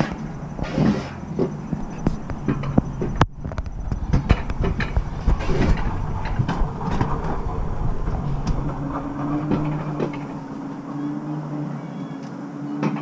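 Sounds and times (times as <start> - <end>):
knocks and rattles: 0.0 - 10.9
faint rising hum: 0.0 - 12.7
vehicle rumble: 0.0 - 13.0.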